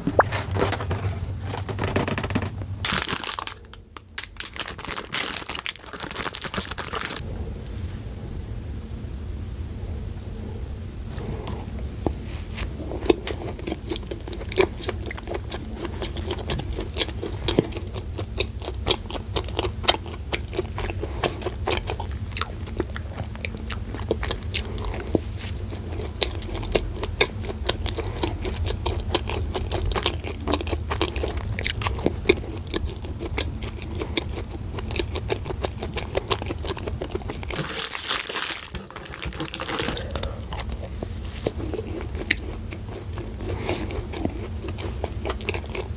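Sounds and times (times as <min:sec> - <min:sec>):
steady low hum: 0:00.0 - 0:45.9
crisp crunching while chewing: 0:00.2 - 0:07.2, 0:12.6 - 0:45.9.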